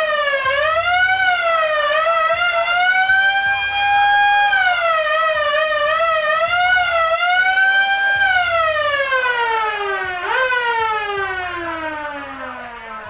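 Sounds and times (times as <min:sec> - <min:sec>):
police car siren: 0:00.0 - 0:13.0.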